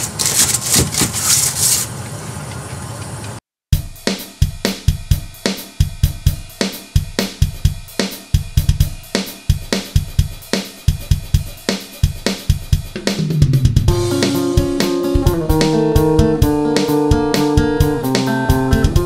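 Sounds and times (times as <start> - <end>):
electronic drum beat: 3.7 - 19.0.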